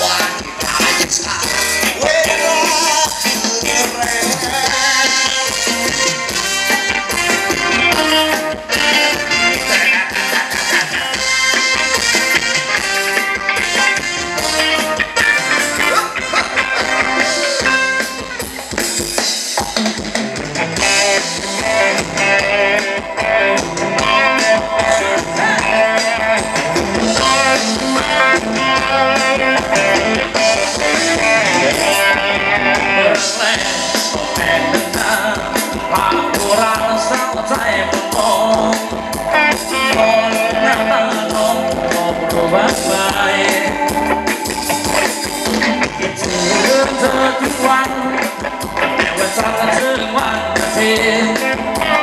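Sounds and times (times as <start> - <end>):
drum kit: 0.0 - 52.0
guitar: 0.0 - 52.0
live band dance music: 0.0 - 52.0.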